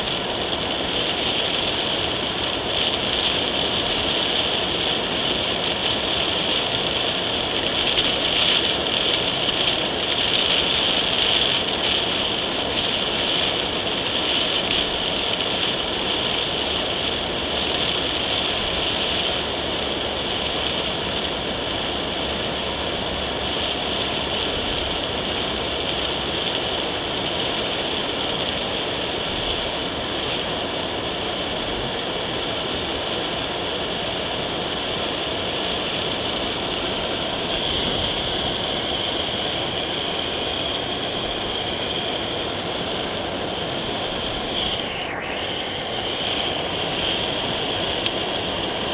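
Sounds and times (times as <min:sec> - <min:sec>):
car driving on flooded road: 0:00.0 - 0:48.9
heavy rain pelting a car: 0:00.0 - 0:48.9.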